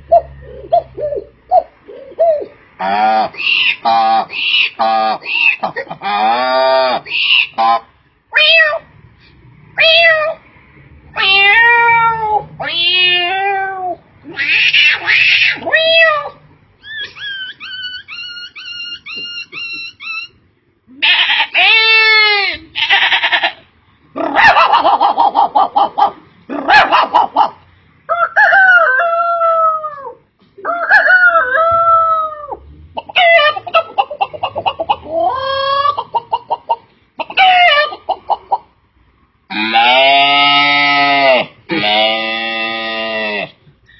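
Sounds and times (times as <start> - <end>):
person imitating animal calls: 0.0 - 8.9, 11.1 - 20.3, 20.9 - 27.4, 28.1 - 36.2, 39.5 - 43.6.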